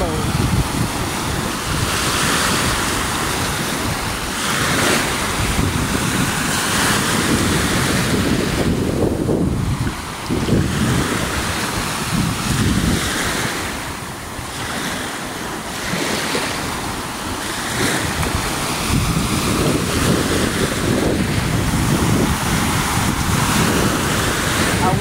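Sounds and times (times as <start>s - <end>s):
lake waves breaking: 0.0s - 25.0s
wind buffeting microphone: 0.0s - 25.0s.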